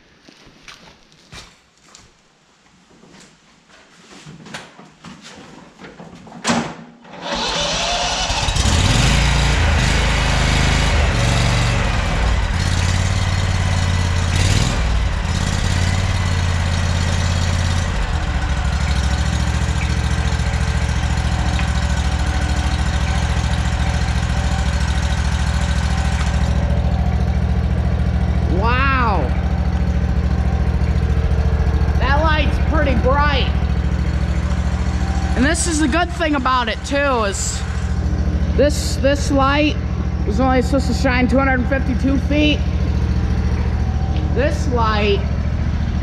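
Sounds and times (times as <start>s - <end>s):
lawn mower engine running: 7.1s - 46.0s.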